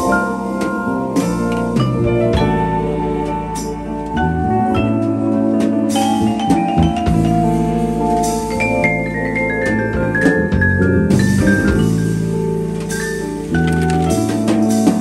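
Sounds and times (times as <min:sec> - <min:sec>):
electric bass line: 0:00.0 - 0:15.0
piano: 0:00.0 - 0:15.0
vibraphone solo: 0:00.0 - 0:15.0.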